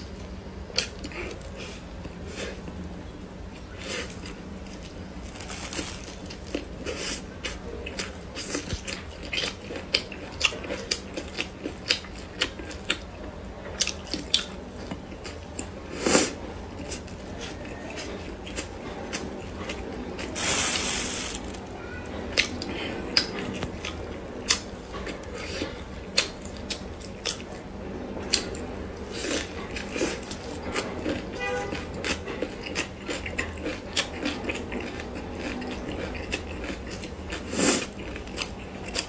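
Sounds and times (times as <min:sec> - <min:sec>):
person chewing soft bun: 0:03.5 - 0:21.6, 0:22.3 - 0:27.6, 0:28.3 - 0:39.0.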